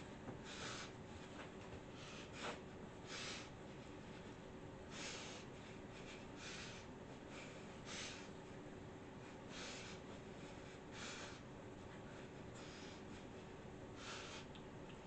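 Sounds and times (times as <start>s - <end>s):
faint room hum: 0.0s - 15.0s
person breathing noisily: 0.4s - 1.0s, 1.9s - 14.6s.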